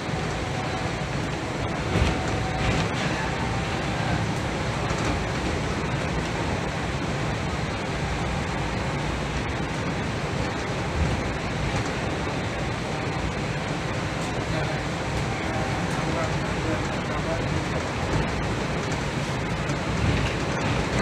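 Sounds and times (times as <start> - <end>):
monorail car rumble and hiss: 0.0 - 21.0.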